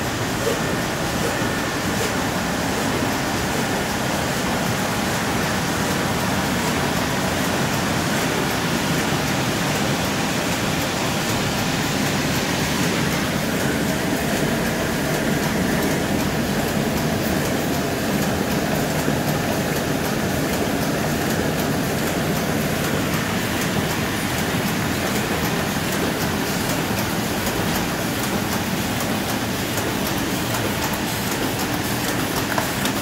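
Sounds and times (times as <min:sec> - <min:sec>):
laminator machine running: 0:00.0 - 0:33.0.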